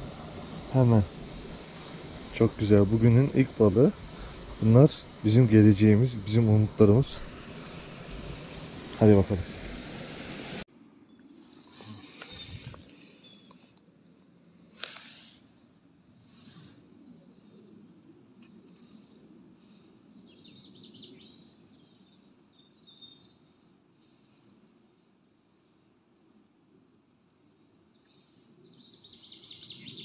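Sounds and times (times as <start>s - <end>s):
songbirds chirping: 0.0s - 9.5s, 11.0s - 25.6s, 26.8s - 30.0s
steady background hiss: 0.0s - 30.0s.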